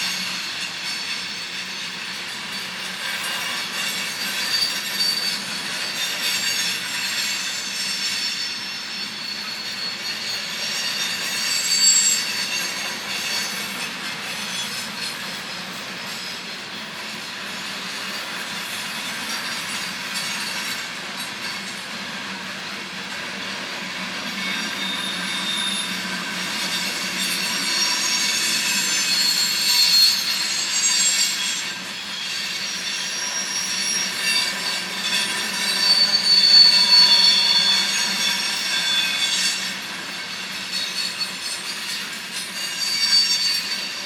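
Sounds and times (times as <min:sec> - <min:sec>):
train wheels squealing: 0:00.0 - 0:44.0.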